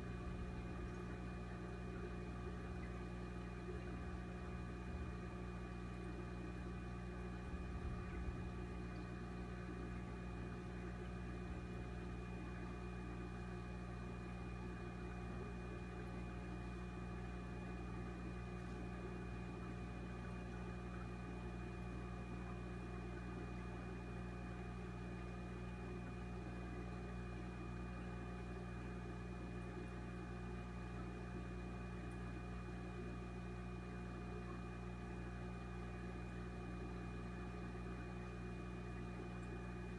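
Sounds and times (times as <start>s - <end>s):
aquarium equipment humming: 0.0s - 39.9s.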